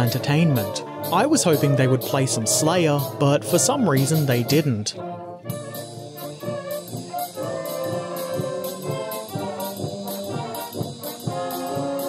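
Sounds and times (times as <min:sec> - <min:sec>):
brass instruments playing: 0:00.0 - 0:12.0.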